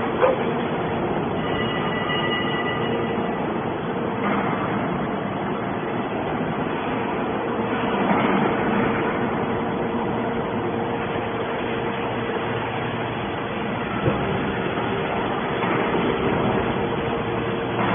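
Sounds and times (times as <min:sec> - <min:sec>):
machine hum: 0:00.0 - 0:17.9
rough mechanical noise: 0:00.0 - 0:17.9.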